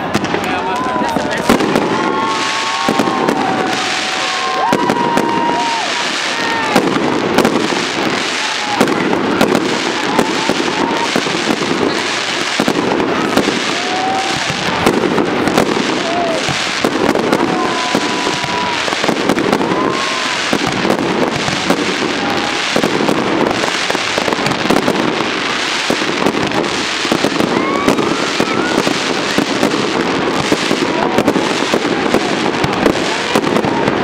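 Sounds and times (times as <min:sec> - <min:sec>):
firework whistles rising: 0:00.0 - 0:33.4
fireworks crackling and banging: 0:00.0 - 0:34.0.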